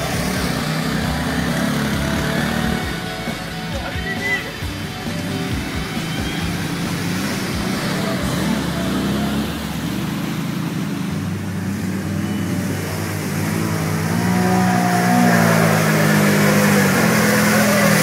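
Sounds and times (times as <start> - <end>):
atv engines running: 0.0 - 18.0
quad driving through muddy water: 0.0 - 18.0.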